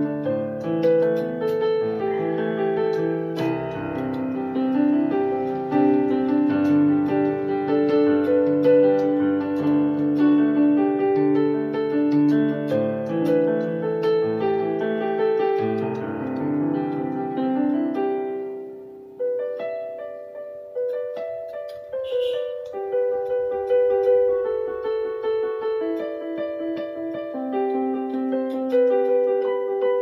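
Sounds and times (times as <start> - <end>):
digital piano melody: 0.0 - 30.0.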